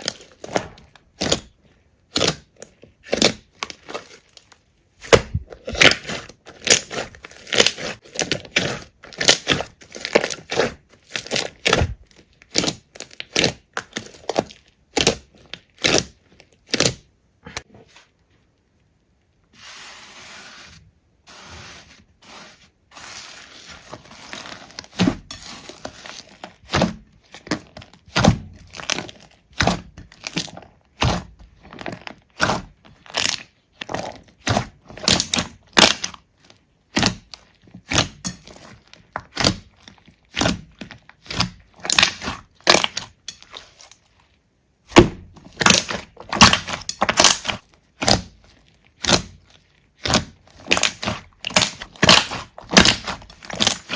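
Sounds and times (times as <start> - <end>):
slime popping and crackling: 0.0 - 17.1, 23.5 - 53.9
slime squishing: 0.0 - 53.9.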